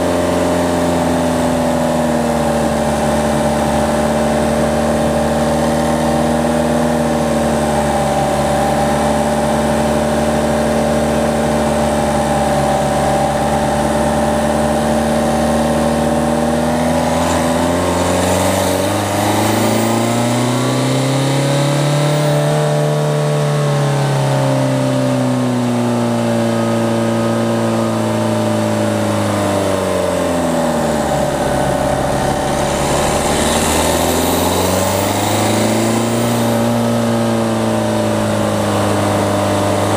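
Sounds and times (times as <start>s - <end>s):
diesel car engine revving: 0.0s - 39.9s.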